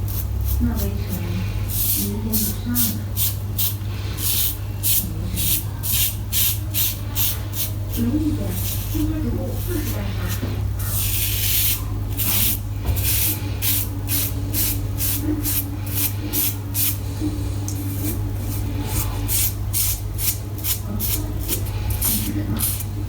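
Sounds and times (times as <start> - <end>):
razor scraping stubble: 0.0 - 17.0, 17.7 - 23.0
steady low hum: 0.0 - 23.0.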